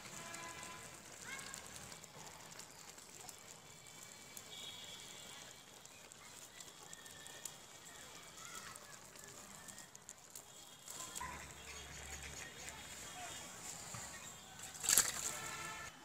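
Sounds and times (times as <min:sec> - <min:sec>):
greens simmering in water: 0:00.0 - 0:16.0.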